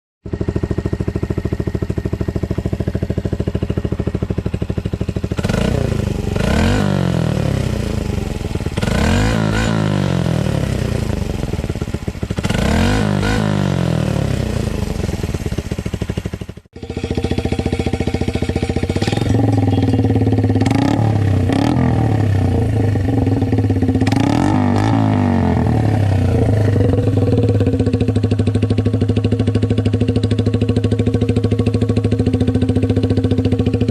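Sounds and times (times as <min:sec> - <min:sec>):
motorcycle engine idling and revving: 0:00.2 - 0:33.9.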